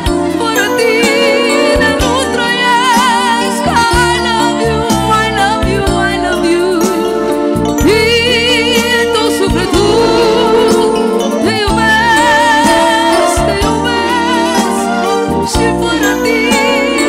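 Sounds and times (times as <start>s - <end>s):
bass line: 0.0s - 17.0s
person singing with vibrato: 0.0s - 17.0s.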